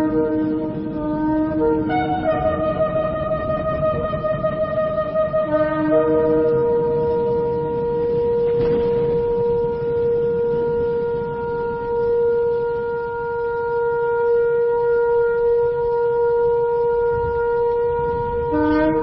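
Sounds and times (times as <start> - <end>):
lower horn note: 0.0 - 19.0
shofar long note: 0.0 - 19.0.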